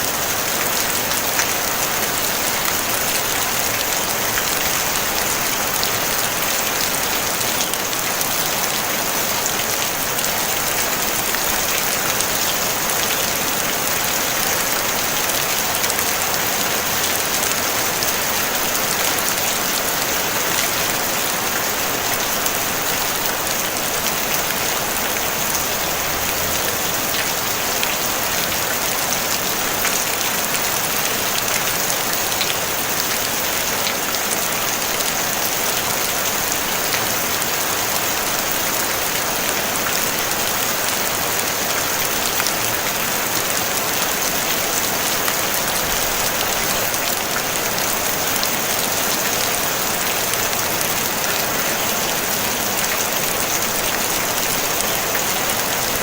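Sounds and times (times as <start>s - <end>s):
rain on a tin roof: 0.0s - 56.0s.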